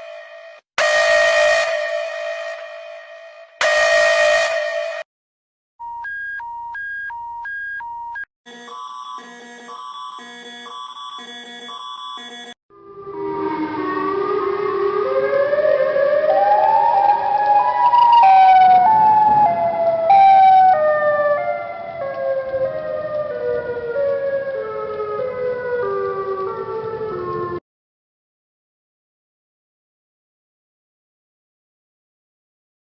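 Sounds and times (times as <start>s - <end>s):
emergency alert siren tone: 0.0s - 5.1s, 5.8s - 27.6s.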